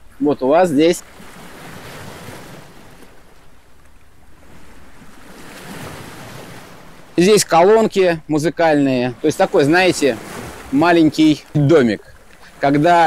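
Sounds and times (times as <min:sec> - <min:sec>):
sea wash: 0:00.0 - 0:13.0.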